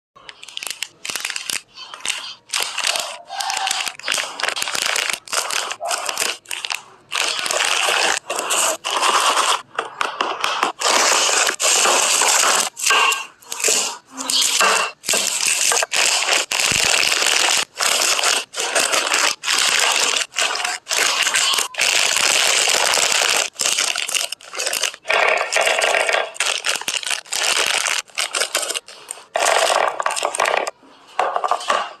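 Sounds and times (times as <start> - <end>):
plastic packets crinkling: 0.2 - 9.7, 10.5 - 31.8.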